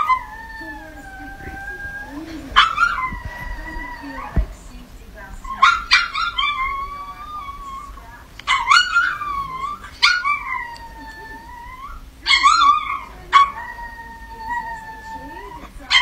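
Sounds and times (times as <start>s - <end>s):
small dog yapping and howling: 0.0s - 16.0s.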